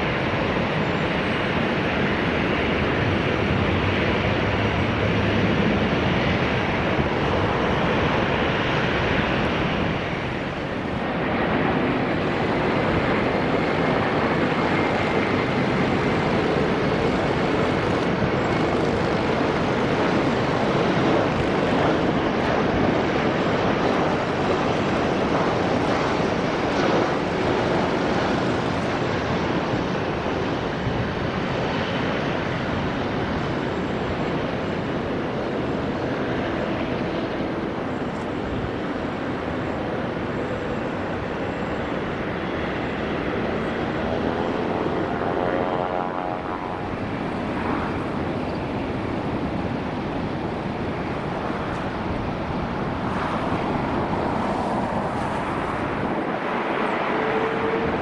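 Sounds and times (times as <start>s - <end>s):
jet airliner noise: 0.0s - 58.0s.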